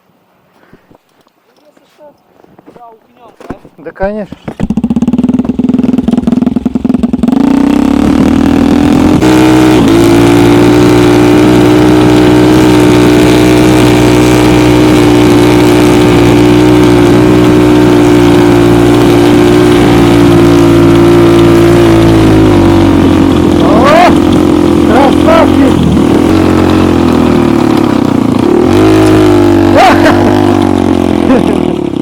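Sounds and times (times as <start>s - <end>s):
snowmobile engine revving: 4.6s - 32.0s.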